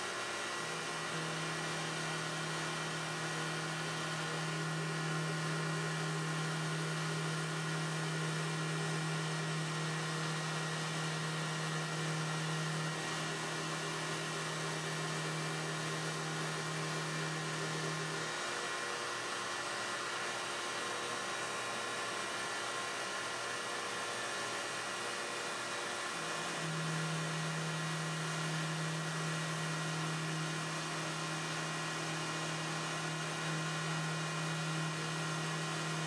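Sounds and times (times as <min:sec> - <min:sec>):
router spindle grinding whine: 0:00.0 - 0:36.0.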